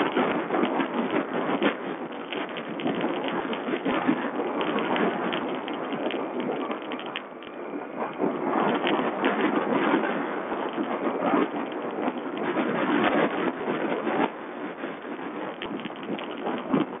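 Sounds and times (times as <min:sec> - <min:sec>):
wind noise: 0:00.0 - 0:17.0.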